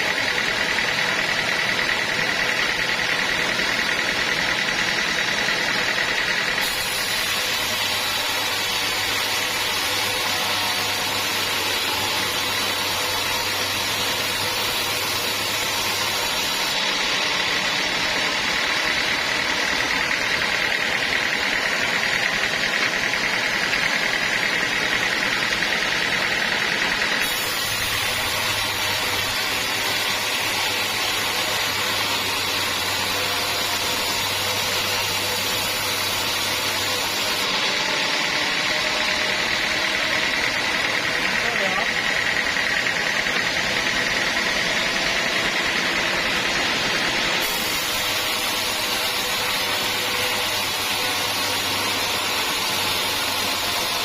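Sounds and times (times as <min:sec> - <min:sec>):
high machine whine: 0:00.0 - 0:54.0
sawmill machinery running: 0:00.0 - 0:54.0.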